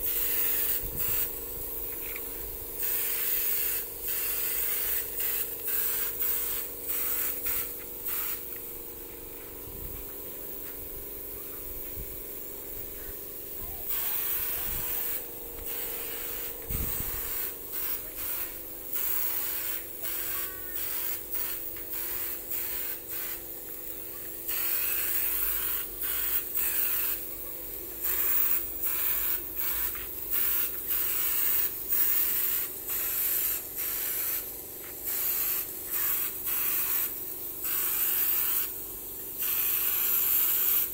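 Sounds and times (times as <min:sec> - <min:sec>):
air compressor humming: 0:00.0 - 0:40.9
spray gun hissing: 0:00.0 - 0:40.9.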